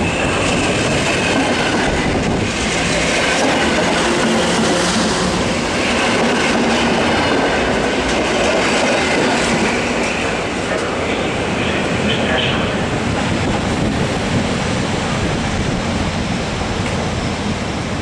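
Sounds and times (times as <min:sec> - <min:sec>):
clickety-clack over rail joints: 0:00.0 - 0:17.6
train wheels rumbling on rails: 0:00.0 - 0:18.0.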